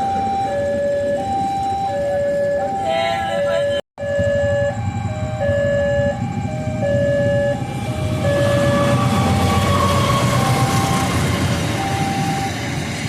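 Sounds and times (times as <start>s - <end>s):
level crossing two-tone alarm: 0.0s - 12.7s
train rumble: 0.0s - 13.0s.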